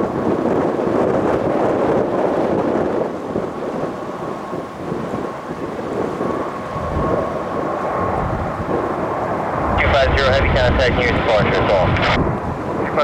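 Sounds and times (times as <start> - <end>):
faint jet whine: 0.0 - 13.0
jet engines roaring: 0.0 - 13.0.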